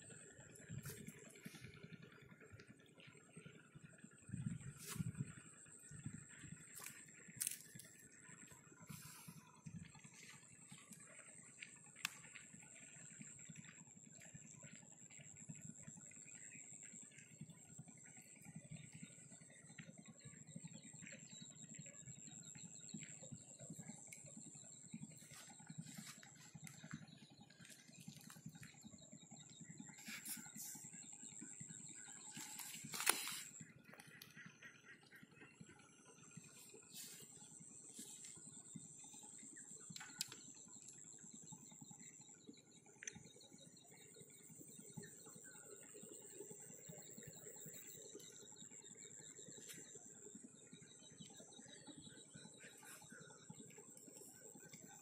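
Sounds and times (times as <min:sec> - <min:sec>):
faint bird chirps: 0:00.0 - 0:55.0.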